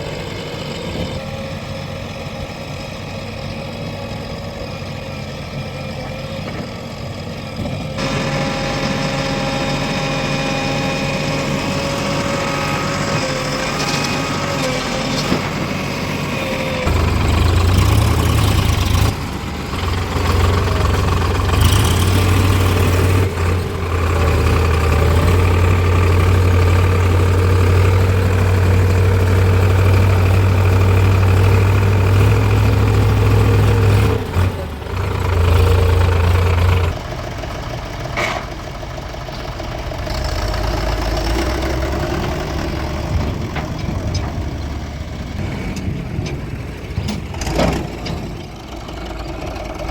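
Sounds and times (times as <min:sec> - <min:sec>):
diesel machinery engines droning: 0:00.0 - 0:49.9.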